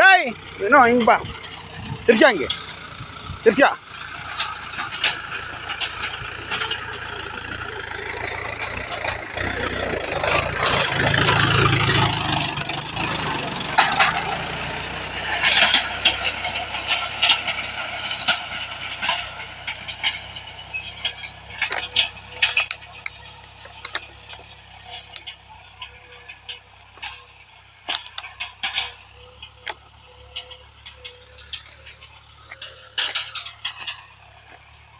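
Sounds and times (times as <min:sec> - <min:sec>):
tractor diesel engine rattling: 0:00.0 - 0:34.9
scattered clicks and knocks: 0:04.0 - 0:34.9.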